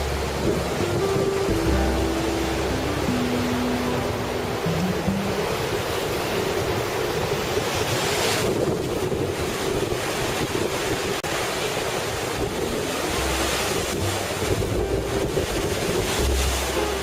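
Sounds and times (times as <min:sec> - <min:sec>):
heavy surf crashing: 0:00.0 - 0:17.0
wind buffeting microphone: 0:00.0 - 0:17.0.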